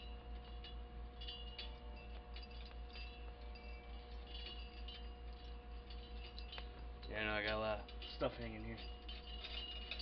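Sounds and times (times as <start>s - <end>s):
bottle caps clinking: 0.0s - 10.0s
low electrical hum: 0.0s - 10.0s.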